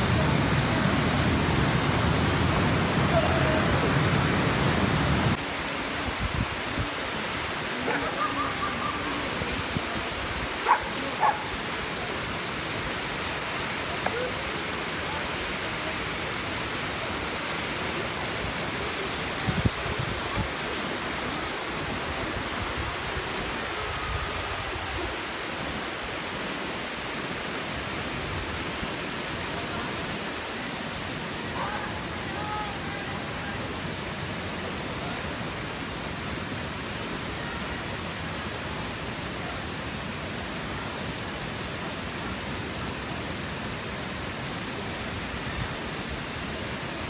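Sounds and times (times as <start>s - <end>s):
river rapids rushing: 0.0s - 47.0s.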